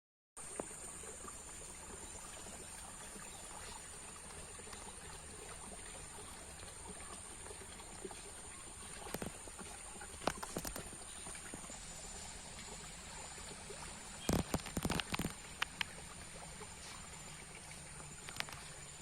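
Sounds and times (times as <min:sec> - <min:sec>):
water flowing in a stream: 0:00.4 - 0:19.0.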